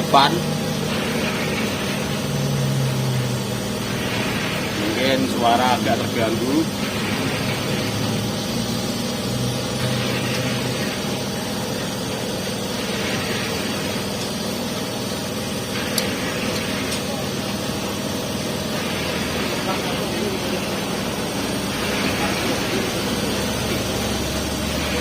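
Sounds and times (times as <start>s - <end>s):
concrete mixer engine drone: 0.0s - 25.0s
mixer hiss: 0.0s - 25.0s.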